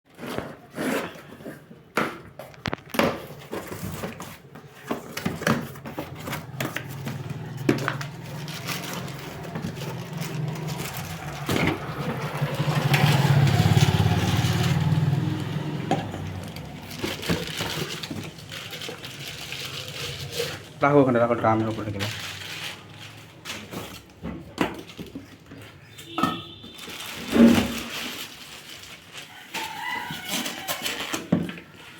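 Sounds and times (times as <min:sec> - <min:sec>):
packaging being handled: 0:00.1 - 0:31.9.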